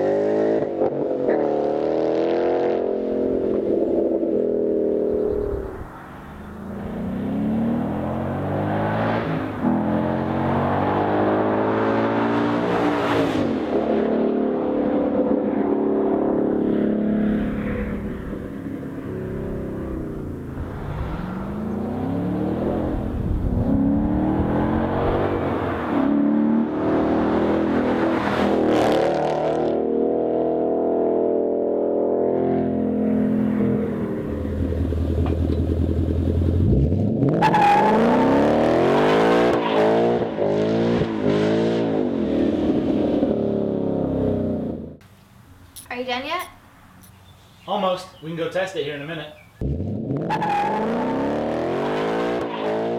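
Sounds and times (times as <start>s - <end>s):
car engine revving and accelerating: 0.0s - 5.8s, 6.4s - 45.0s, 49.6s - 52.9s.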